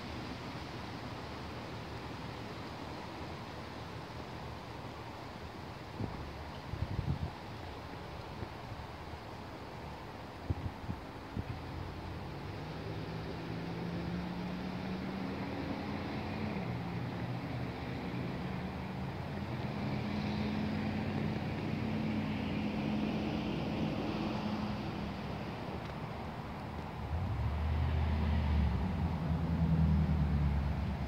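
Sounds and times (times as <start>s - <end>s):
vehicle engine humming: 0.0s - 31.0s
wind hiss: 0.0s - 31.0s.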